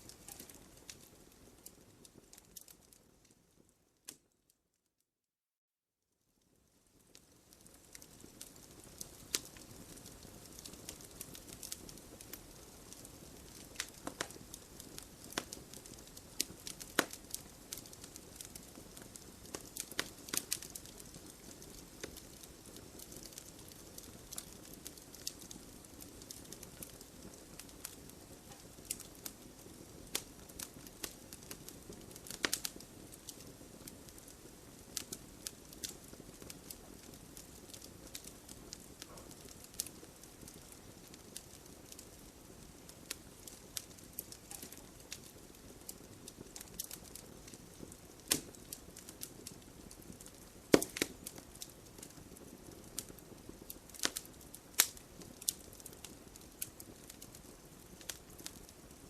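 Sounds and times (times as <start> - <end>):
logs crackling and popping: 0.0 - 4.3, 6.9 - 59.0
hiss of flames: 7.0 - 59.0.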